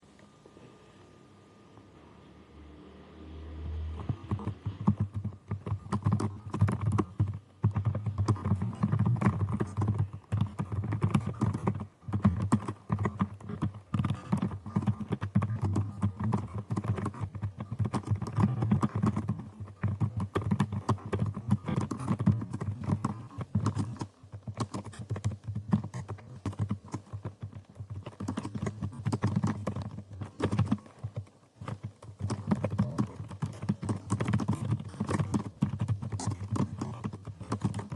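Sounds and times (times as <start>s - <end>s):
fast typing on keyboard: 3.9s - 37.9s.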